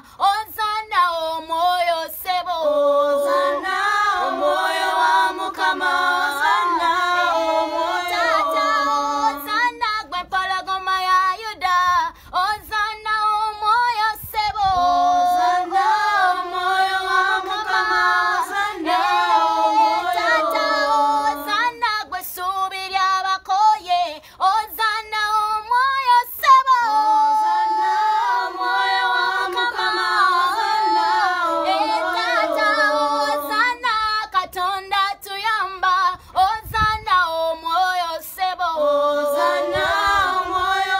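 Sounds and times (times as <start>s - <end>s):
children's choir singing a cappella: 0.0s - 36.2s, 37.0s - 40.9s.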